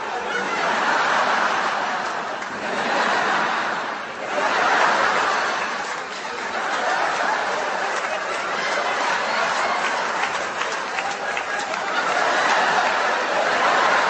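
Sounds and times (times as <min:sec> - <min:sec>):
crowd laughing: 0:00.0 - 0:14.0.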